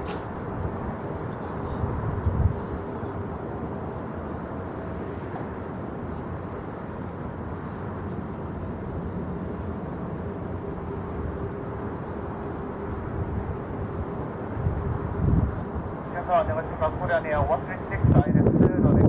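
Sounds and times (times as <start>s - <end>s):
jet engine rumble and whine: 0.0s - 19.0s.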